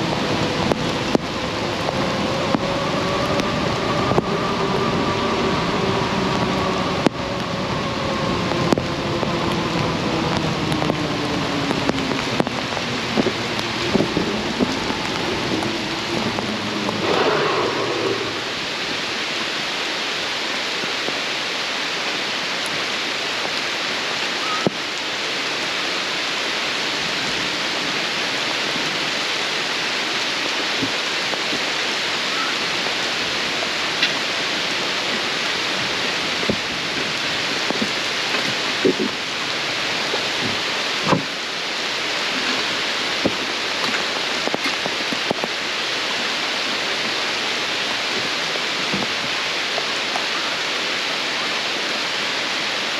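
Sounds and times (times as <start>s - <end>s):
raindrops tapping close by: 0.0s - 17.1s, 20.7s - 52.4s
steady rain hiss: 0.0s - 52.9s.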